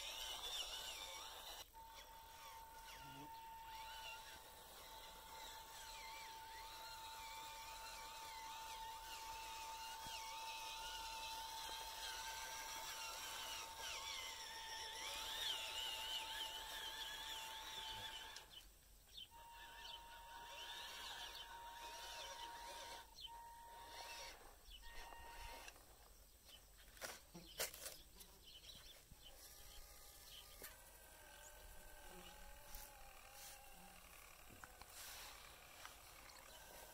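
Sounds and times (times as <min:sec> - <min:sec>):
small electric motor whine: 0:00.0 - 0:26.1, 0:27.0 - 0:36.9.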